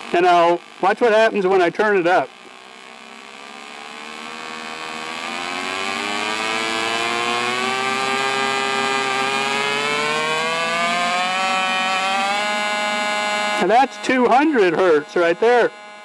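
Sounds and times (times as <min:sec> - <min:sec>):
welding arc buzz rising in pitch: 0:00.0 - 0:16.0.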